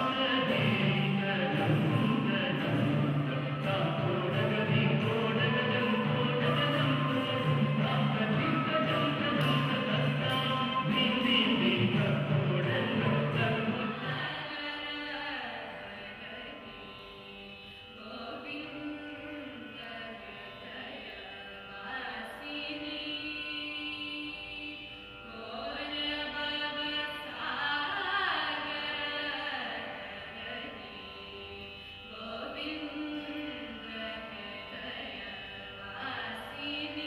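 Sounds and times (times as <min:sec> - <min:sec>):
woman singing: 0:00.0 - 0:17.0, 0:18.0 - 0:37.0.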